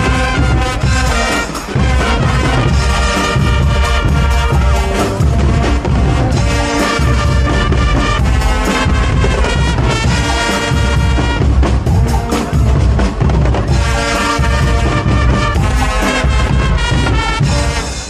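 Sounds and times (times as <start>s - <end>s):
brass band playing: 0.0s - 18.0s
steady drum beat: 0.0s - 18.0s.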